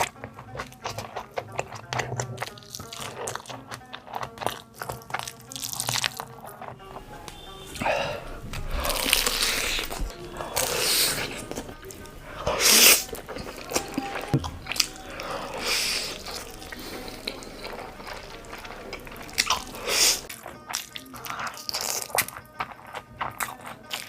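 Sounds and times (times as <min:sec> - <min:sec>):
crunchy bites and chewing: 0:00.0 - 0:24.0.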